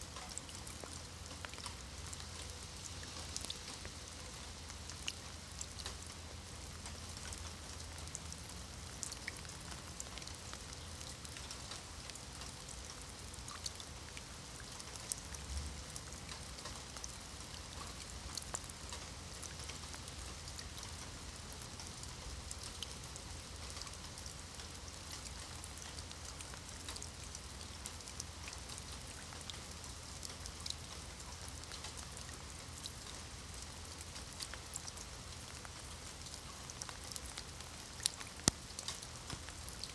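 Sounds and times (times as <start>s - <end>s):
rain hissing on stone paving: 0.0s - 39.9s
drops ticking on puddles: 0.1s - 39.9s.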